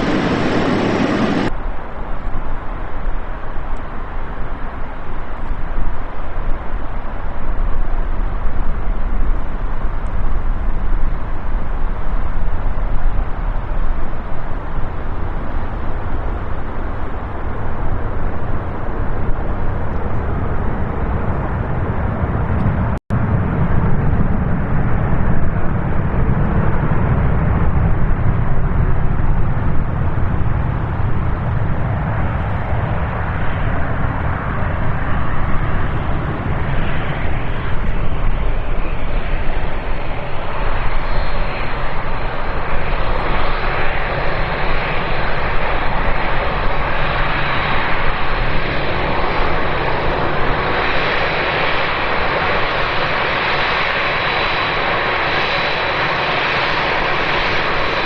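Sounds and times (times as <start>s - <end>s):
jet engine rumble: 0.0s - 58.0s.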